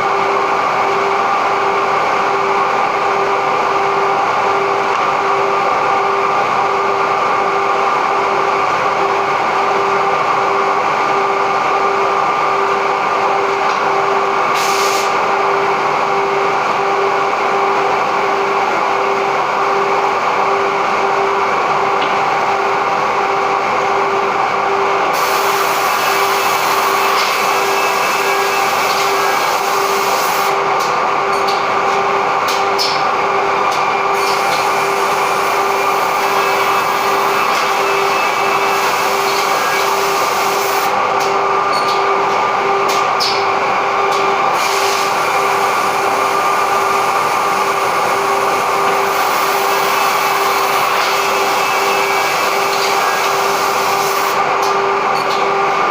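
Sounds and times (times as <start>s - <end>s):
machine motors humming and whining: 0.0s - 55.9s.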